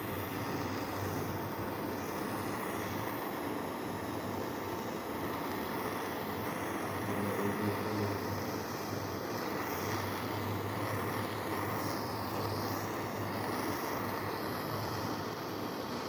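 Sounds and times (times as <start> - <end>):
steady mechanical drone: 0.0 - 16.0.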